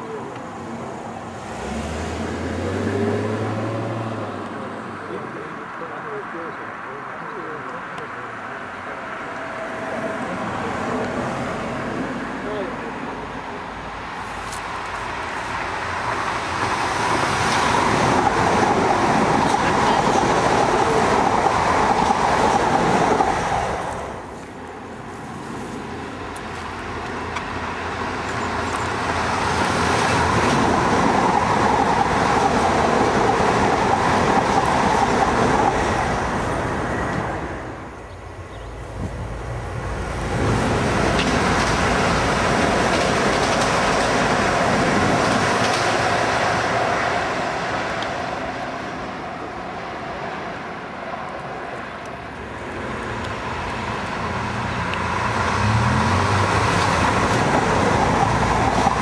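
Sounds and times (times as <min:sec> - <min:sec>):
diesel train passing: 0:00.0 - 0:59.0.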